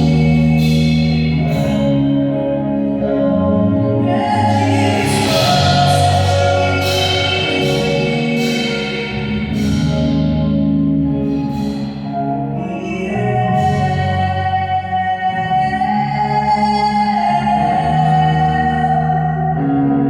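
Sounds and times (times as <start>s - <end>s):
band sustained chords: 0.0s - 20.0s.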